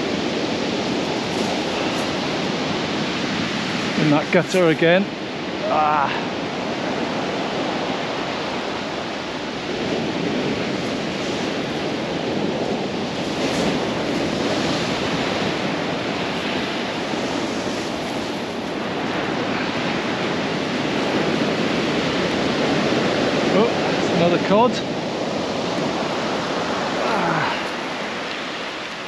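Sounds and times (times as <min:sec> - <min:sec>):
surf breaking on shingle beach: 0:00.0 - 0:29.0.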